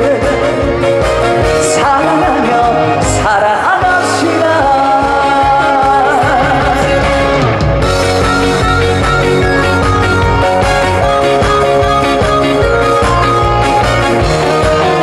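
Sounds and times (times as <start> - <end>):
trot song with steady beat: 0.0 - 15.0.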